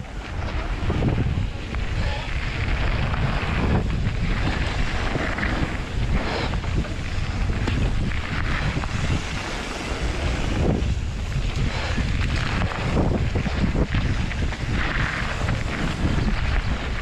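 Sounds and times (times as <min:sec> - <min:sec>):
mountain bike rumbling and rattling: 0:00.0 - 0:17.0
tyres scraping on dirt: 0:00.0 - 0:17.0
wind buffeting microphone: 0:00.0 - 0:17.0.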